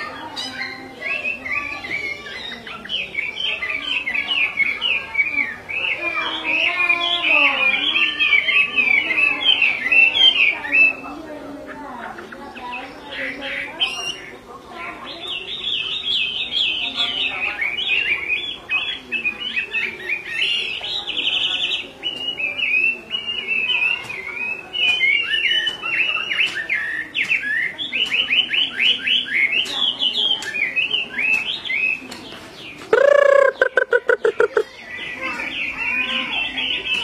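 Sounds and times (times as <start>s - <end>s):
bird singing with trills: 0.0s - 37.0s.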